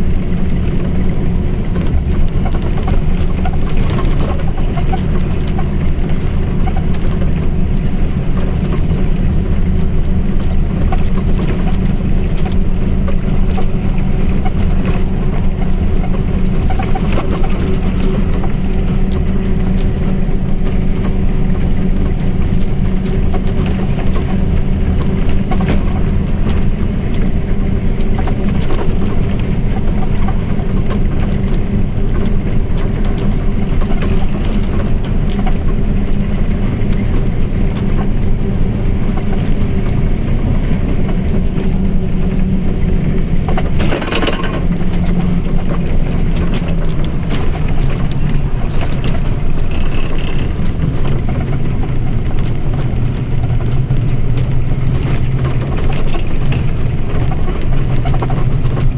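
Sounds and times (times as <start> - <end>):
bus engine droning: 0.0 - 58.9.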